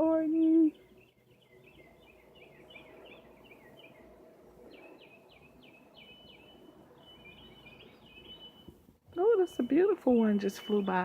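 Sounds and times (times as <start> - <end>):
birds singing faintly: 0.0 - 11.0.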